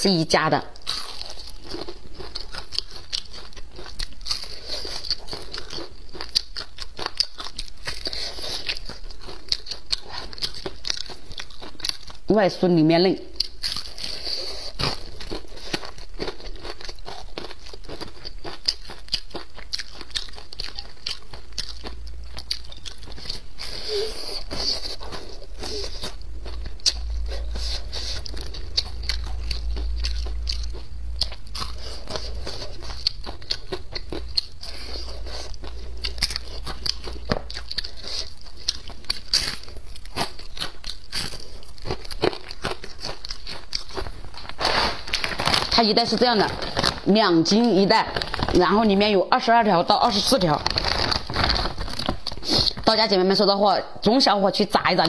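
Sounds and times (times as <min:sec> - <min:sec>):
crunchy chewing of fried food: 0:00.0 - 0:48.9, 0:49.8 - 0:53.1.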